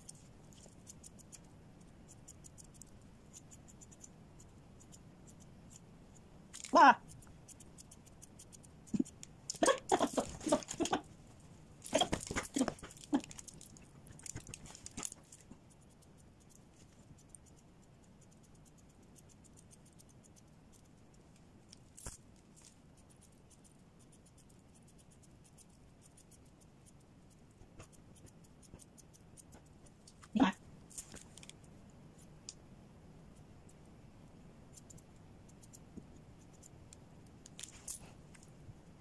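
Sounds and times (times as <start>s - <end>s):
grooming scissors snipping: 0.0s - 11.0s, 11.8s - 30.3s, 34.7s - 38.5s.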